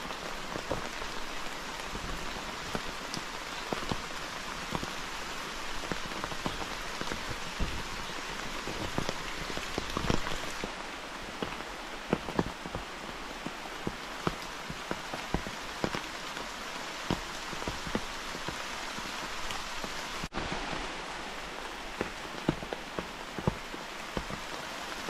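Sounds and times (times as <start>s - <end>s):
large raindrops striking surface: 0.0s - 25.0s
rain hissing: 0.0s - 25.0s.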